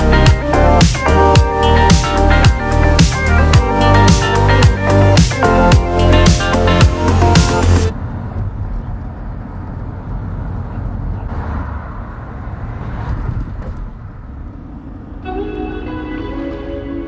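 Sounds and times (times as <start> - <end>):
car engine and tyre noise: 0.0 - 16.9
oncoming cars passing: 0.0 - 17.0.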